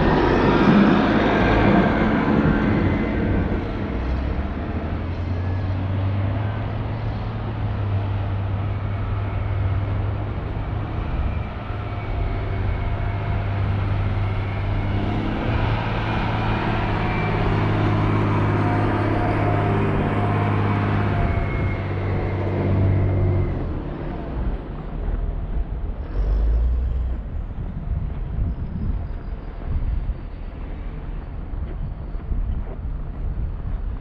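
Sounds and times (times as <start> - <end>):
heavy vehicle engine humming: 0.0 - 34.0
road noise: 0.0 - 34.0.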